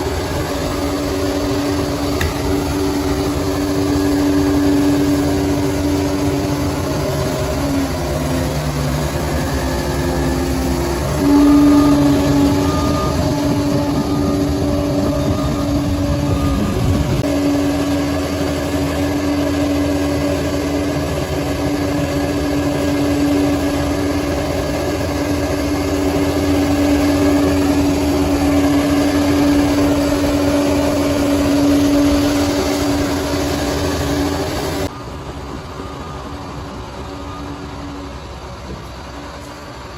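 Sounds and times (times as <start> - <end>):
bulldozer engine humming: 0.0 - 39.9.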